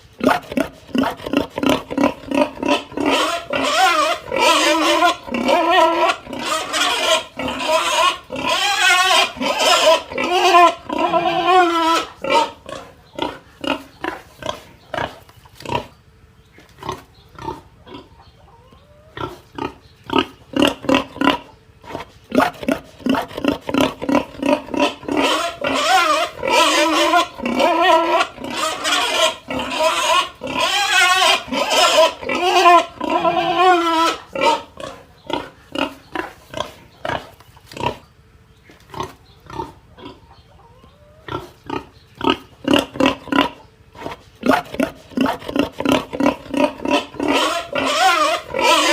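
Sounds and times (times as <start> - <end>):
pig grunting: 0.0 - 16.0, 16.7 - 38.1, 38.7 - 40.4, 41.0 - 48.9
pig squealing: 0.2 - 16.0, 16.8 - 38.0, 39.0 - 48.9.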